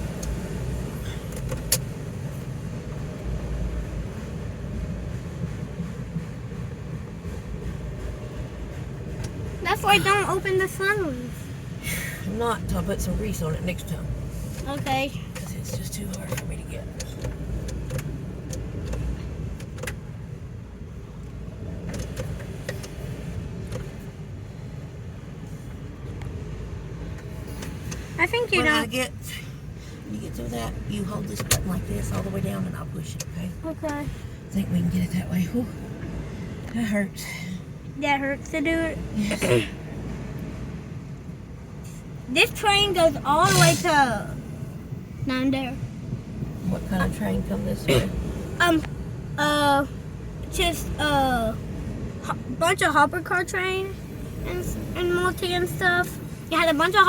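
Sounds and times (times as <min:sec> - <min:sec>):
car cabin rumble: 0:00.0 - 0:57.0.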